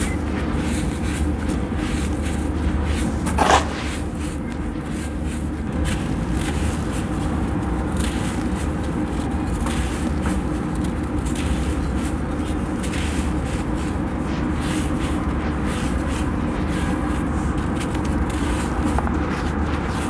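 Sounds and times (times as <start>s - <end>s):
gritty crunch: 0.0s - 20.0s.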